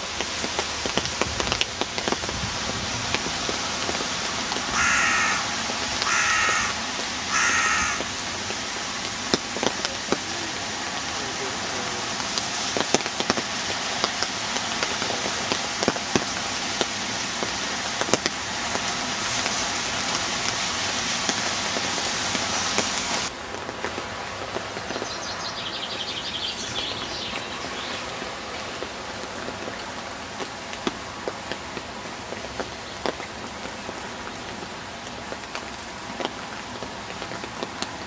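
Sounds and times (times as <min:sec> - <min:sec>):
sharp ticks of raindrops: 0:00.0 - 0:38.0
steady rain falling: 0:00.0 - 0:38.0.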